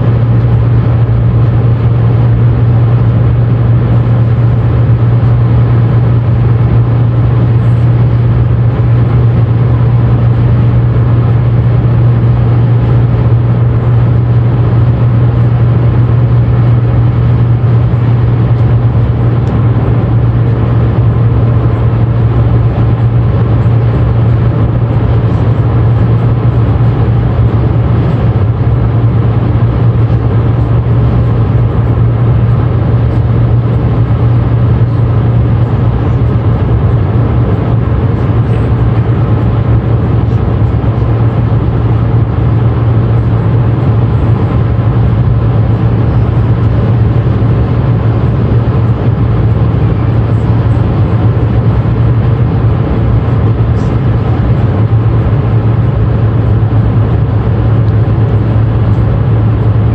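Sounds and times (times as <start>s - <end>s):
deep car cabin hum: 0.0s - 59.9s
tyre and road rumble: 0.0s - 59.9s.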